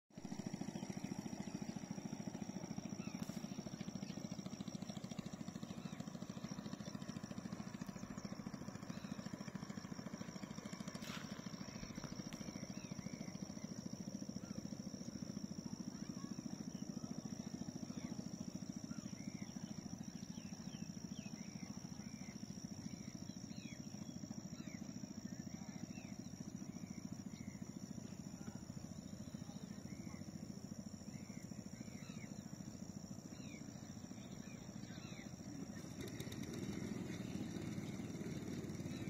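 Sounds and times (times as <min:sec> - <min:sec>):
boat engine chugging: 0:00.2 - 0:39.0.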